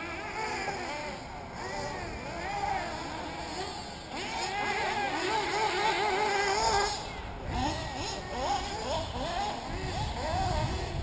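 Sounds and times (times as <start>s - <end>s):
model car engines whining: 0.0s - 11.0s.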